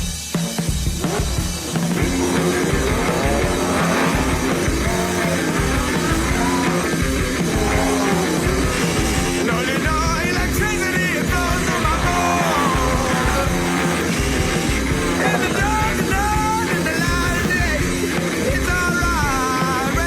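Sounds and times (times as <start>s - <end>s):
distorted guitar: 0.0s - 20.0s
drums: 0.0s - 20.0s.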